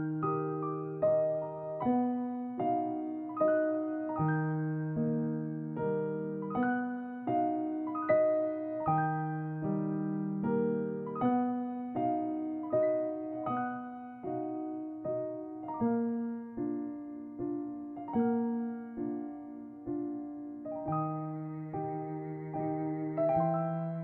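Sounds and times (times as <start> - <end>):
gentle solo piano: 0.0 - 24.0.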